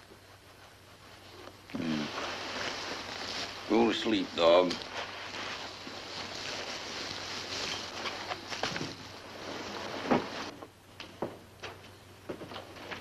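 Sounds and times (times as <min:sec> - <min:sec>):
steady rushing hiss: 0:00.0 - 0:11.6.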